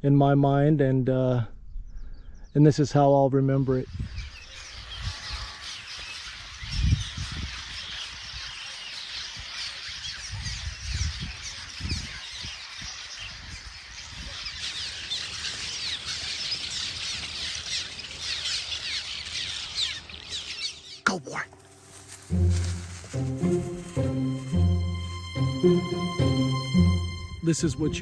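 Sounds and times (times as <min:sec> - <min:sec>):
small birds chirping: 0:03.6 - 0:28.0.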